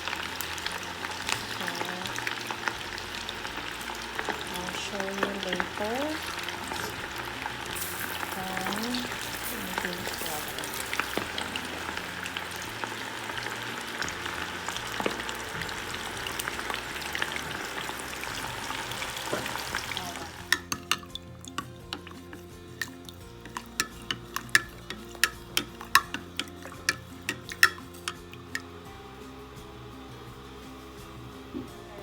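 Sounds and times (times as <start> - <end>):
chicken frying in hot oil: 0.0 - 32.0
faint background music: 0.0 - 32.0.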